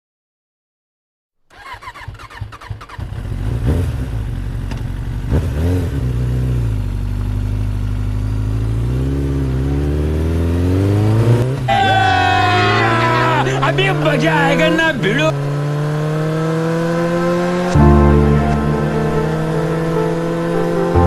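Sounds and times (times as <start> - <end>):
motorcycle engine revving: 1.5 - 21.0.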